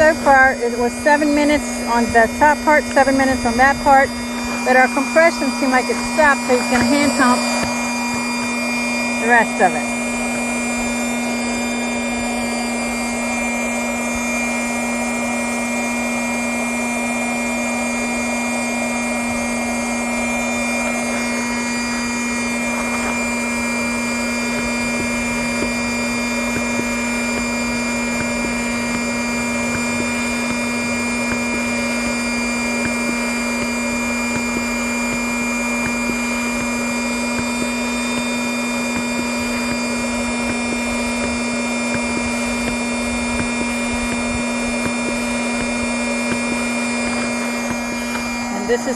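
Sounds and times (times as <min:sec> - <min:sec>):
electric air pump humming: 0:00.0 - 0:48.9.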